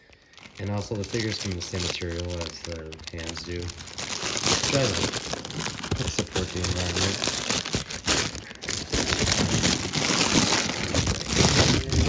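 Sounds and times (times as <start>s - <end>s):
packaging bag crinkling: 0.0s - 12.0s.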